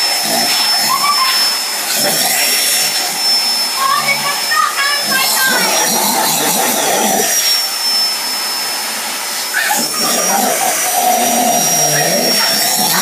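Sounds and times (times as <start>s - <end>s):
vacuum cleaner suction whine: 0.0s - 13.0s.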